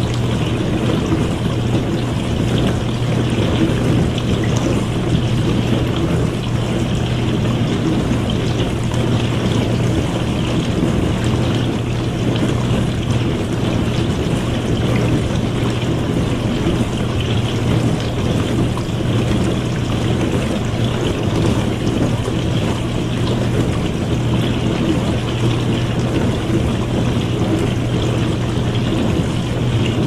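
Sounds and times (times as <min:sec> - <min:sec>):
pump motor hum: 0:00.0 - 0:30.0
water spraying and sloshing: 0:00.0 - 0:30.0.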